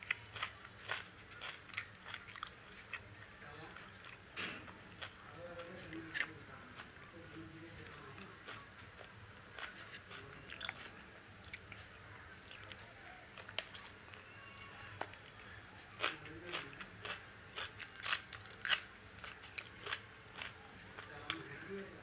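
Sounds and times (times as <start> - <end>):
chewing: 0.0 - 7.1, 7.8 - 14.2, 15.0 - 21.6.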